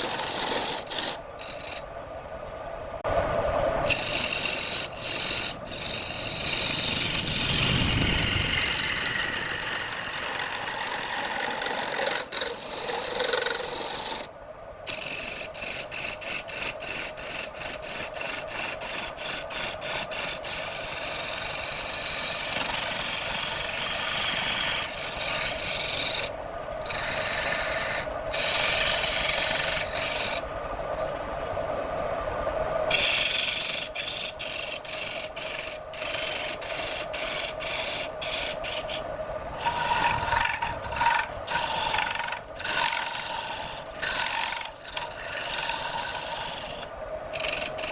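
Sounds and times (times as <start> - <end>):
wood lathe humming: 0.0 - 1.8, 3.9 - 14.3, 14.9 - 31.2, 32.9 - 47.9
turning tool scraping wood: 0.0 - 1.9, 3.9 - 14.3, 14.9 - 31.2, 32.9 - 47.9.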